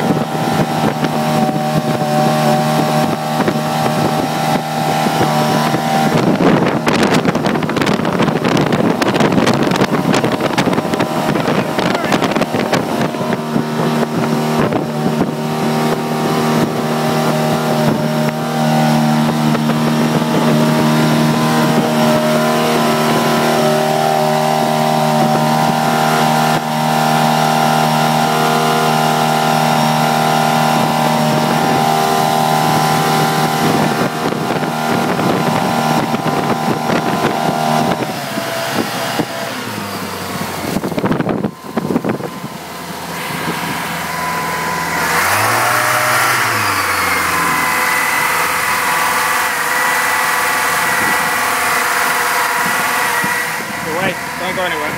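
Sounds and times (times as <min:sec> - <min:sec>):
boat engine running: 0:00.0 - 0:54.9
rushing water: 0:00.0 - 0:54.9
wind on microphone: 0:00.0 - 0:54.9.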